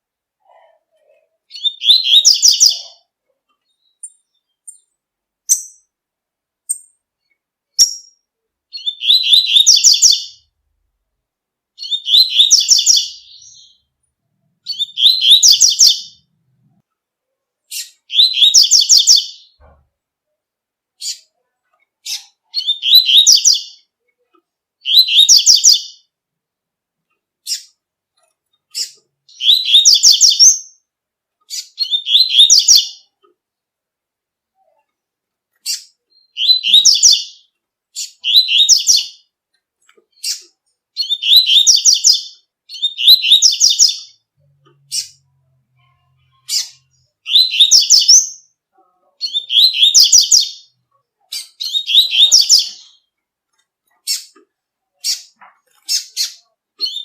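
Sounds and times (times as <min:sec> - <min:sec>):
small bird singing: 0:00.4 - 0:06.0, 0:06.6 - 0:10.6, 0:11.7 - 0:16.8, 0:17.6 - 0:19.8, 0:20.9 - 0:26.2, 0:27.1 - 0:33.4, 0:34.6 - 0:39.4, 0:40.0 - 0:57.0.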